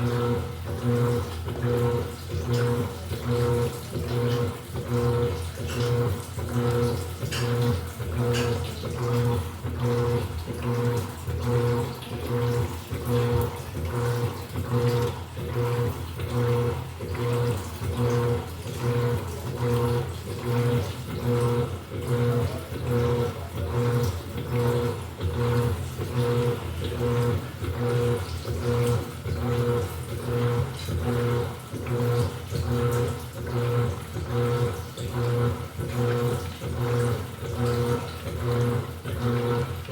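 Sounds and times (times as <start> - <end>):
washing machine motor humming: 0.0 - 39.9
water and clothes swishing: 0.0 - 39.9.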